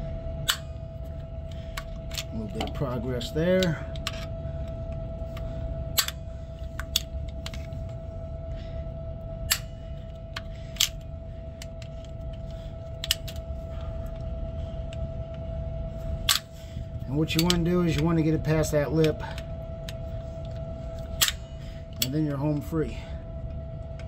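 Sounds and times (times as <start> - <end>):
faint hum: 0.0 - 24.0
low rumble: 0.0 - 24.0.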